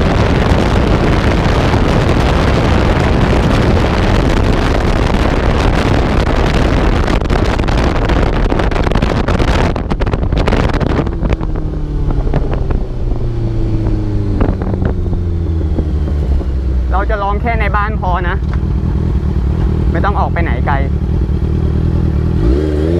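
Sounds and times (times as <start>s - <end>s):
wind buffeting microphone: 0.0s - 20.6s
motorcycle engine: 0.0s - 22.9s.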